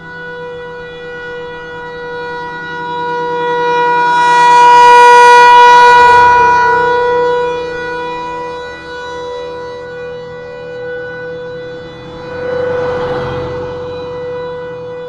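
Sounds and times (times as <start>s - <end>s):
warning siren steady tone: 0.0s - 15.0s.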